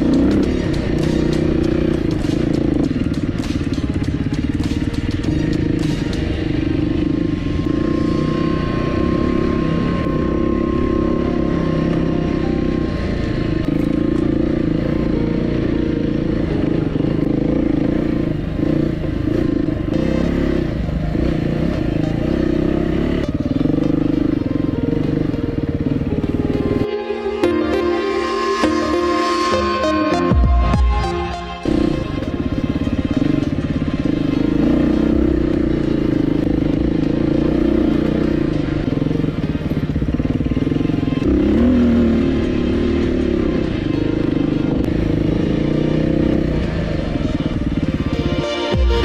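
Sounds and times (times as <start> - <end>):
motorcycle engine running: 0.0 - 26.9, 30.3 - 49.0.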